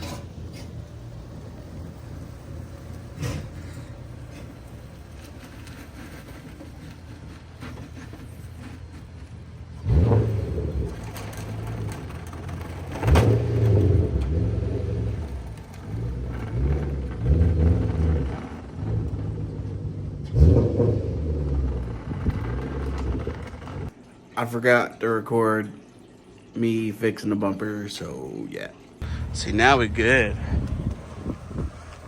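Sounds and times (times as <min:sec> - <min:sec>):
car engine revving: 0:00.0 - 0:08.9, 0:09.6 - 0:23.9, 0:29.0 - 0:32.0.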